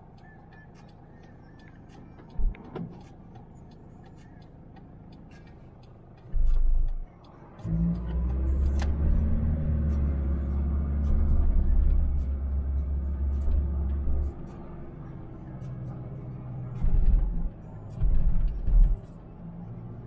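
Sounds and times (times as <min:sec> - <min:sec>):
diesel van engine rumble: 0:00.0 - 0:20.0.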